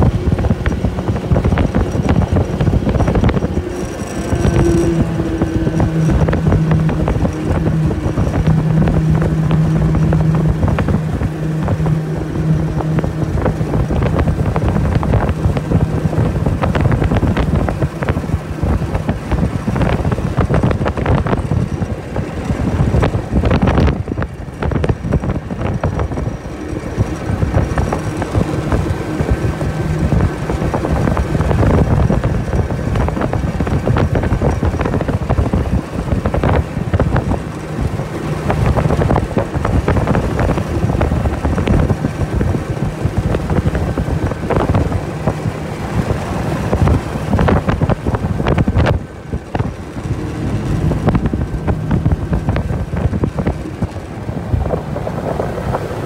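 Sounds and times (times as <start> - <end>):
outboard motor running: 0.0 - 56.0
wind buffeting microphone: 0.0 - 56.0.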